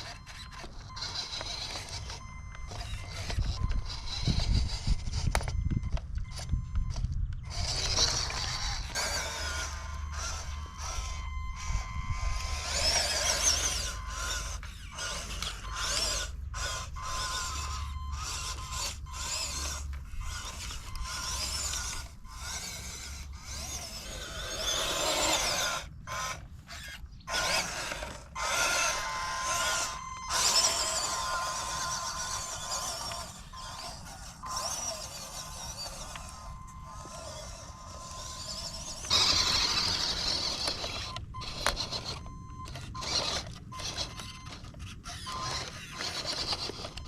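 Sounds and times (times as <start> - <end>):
electric motor whining: 0.0 - 47.0.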